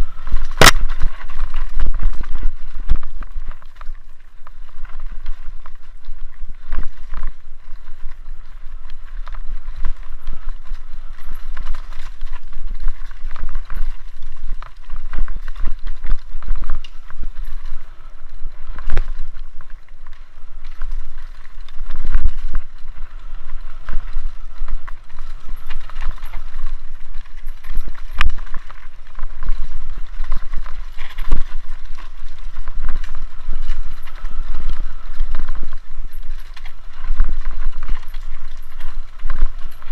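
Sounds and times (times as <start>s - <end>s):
bike rattling and clattering: 0.0s - 39.9s
tyres rolling on dirt: 0.0s - 39.9s
wind rumbling on microphone: 0.0s - 39.9s.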